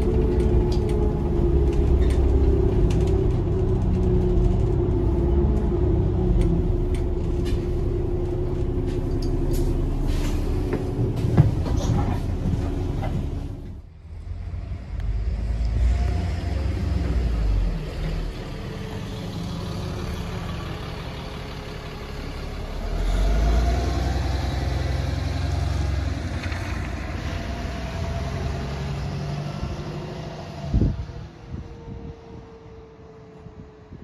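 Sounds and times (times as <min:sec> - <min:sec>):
bus engine accelerating: 0:00.0 - 0:34.0.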